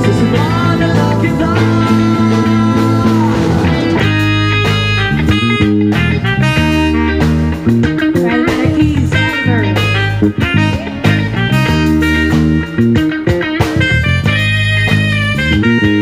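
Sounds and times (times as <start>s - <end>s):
bass guitar: 0.0s - 16.0s
drums: 0.0s - 16.0s
electric guitar lead: 0.0s - 16.0s.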